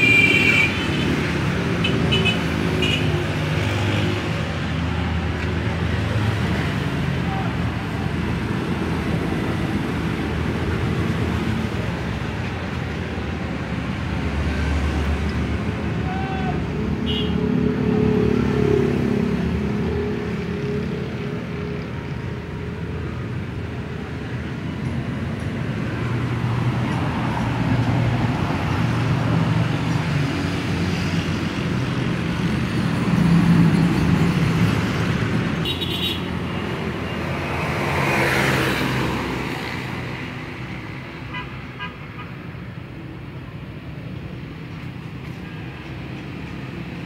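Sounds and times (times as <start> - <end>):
passing vehicle engines: 0.0 - 47.0.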